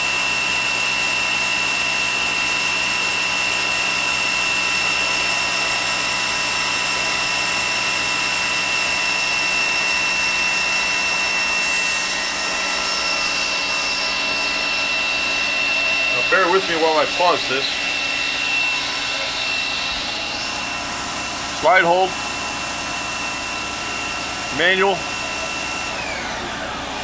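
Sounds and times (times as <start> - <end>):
milling machine cutting: 0.0 - 27.0.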